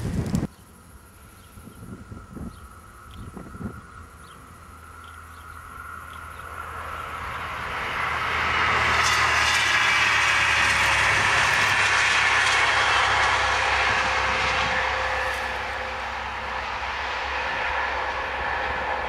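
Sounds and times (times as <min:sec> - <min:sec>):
diesel train approaching: 0:00.0 - 0:19.0.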